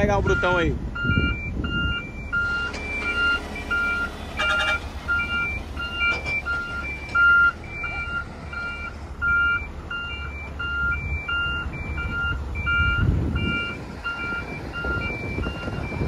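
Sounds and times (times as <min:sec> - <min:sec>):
diesel engines rumbling: 0:00.0 - 0:16.0
truck reversing alarm beeping: 0:00.0 - 0:16.0.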